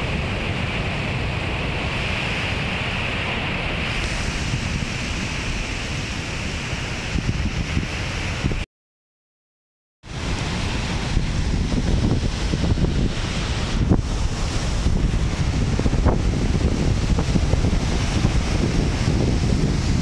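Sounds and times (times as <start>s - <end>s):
surf breaking on rocks: 0.0s - 8.6s, 10.1s - 20.0s
wind buffeting microphone: 0.0s - 8.6s, 10.1s - 20.0s.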